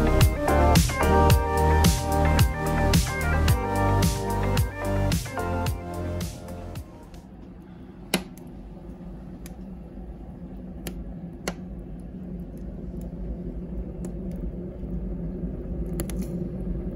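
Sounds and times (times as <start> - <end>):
boiler fan low hum: 0.0 - 16.9.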